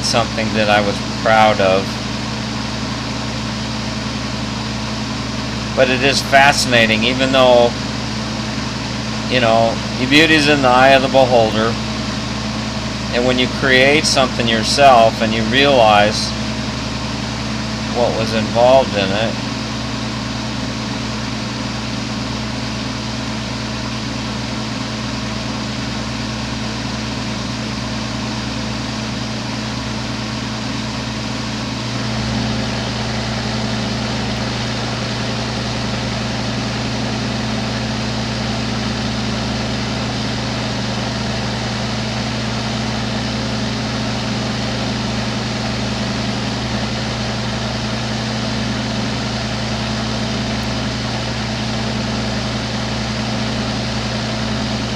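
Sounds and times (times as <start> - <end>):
ventilation fan humming: 0.0 - 54.9.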